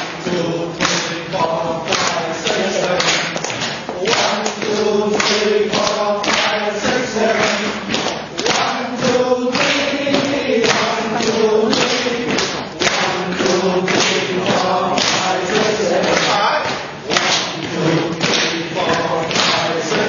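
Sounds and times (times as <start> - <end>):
steady percussive beat: 0.0 - 20.0
voices singing together: 0.0 - 20.0.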